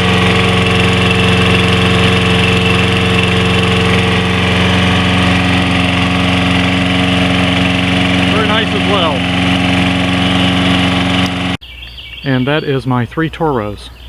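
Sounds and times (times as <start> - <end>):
lawn mower engine running: 0.0 - 11.6.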